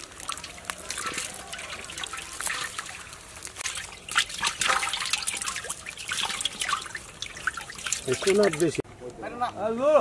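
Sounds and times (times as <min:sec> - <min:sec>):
fish flapping on wet plastic: 0:00.0 - 0:08.8.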